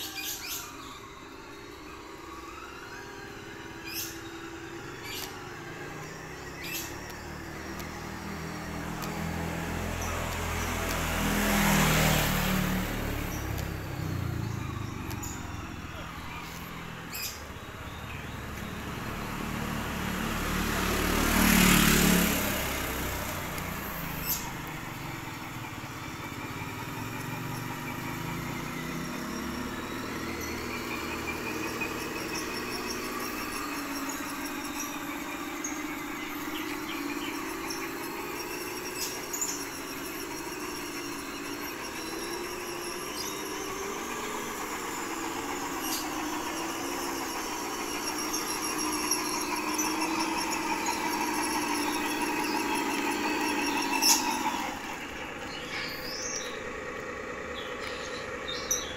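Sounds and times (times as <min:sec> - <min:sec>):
simulated diesel engine drone: 0:00.0 - 0:58.9.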